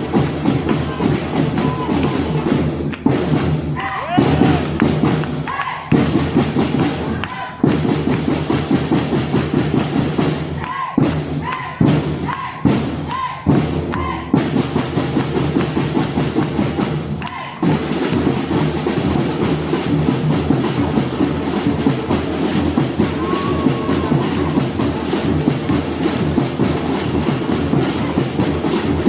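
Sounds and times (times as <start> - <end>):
samba percussion ensemble drumming: 0.0 - 29.0.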